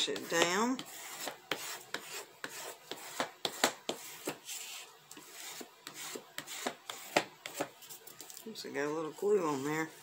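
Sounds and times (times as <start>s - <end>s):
burnishing tool scraping paper: 0.0s - 8.1s.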